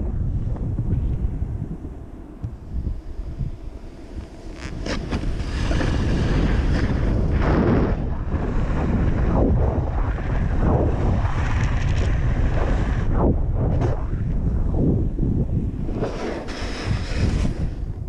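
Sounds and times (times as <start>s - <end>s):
wind buffeting microphone: 0.0s - 18.0s
board sliding over snow: 2.8s - 18.0s.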